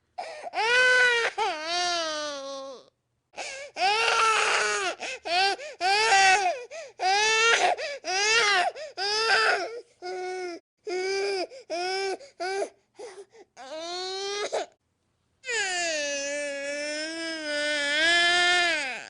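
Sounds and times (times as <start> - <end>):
infant crying: 0.2 - 14.8, 15.5 - 19.0.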